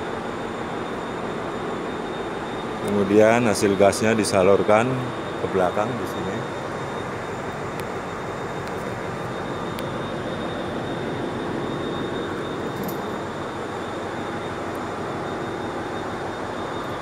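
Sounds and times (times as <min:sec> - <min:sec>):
diesel generators droning: 0:00.0 - 0:17.0
thin high whine: 0:00.0 - 0:17.0.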